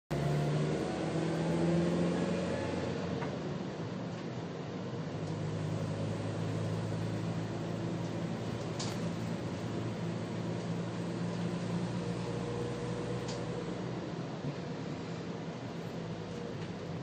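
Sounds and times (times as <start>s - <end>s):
road noise: 0.1s - 17.0s
vehicle engine hum: 0.1s - 17.0s.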